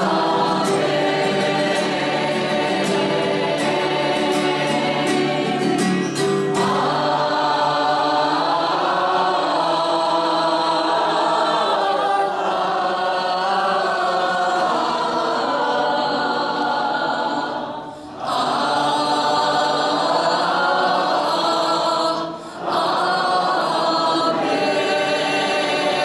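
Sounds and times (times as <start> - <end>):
group of voices singing: 0.0 - 26.0.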